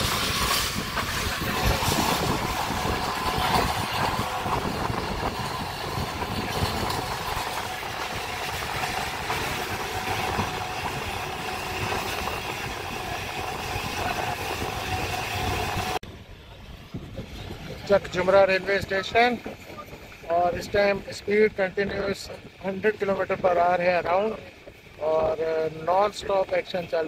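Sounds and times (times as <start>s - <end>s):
train running noise from on board: 0.0s - 27.0s.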